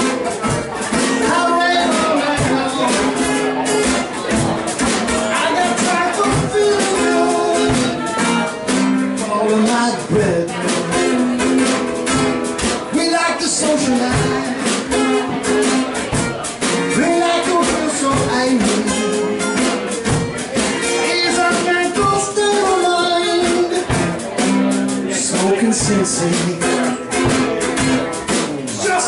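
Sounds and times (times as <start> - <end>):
drum kit beat: 0.0 - 29.0
guitar strumming: 0.0 - 29.0.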